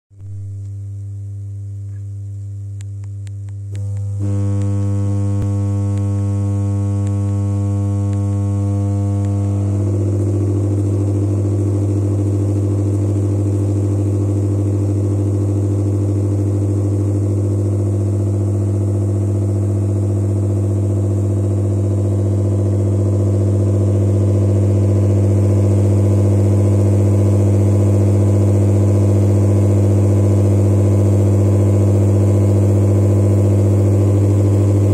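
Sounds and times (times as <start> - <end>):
shaker tray electric hum: 0.2 - 34.9.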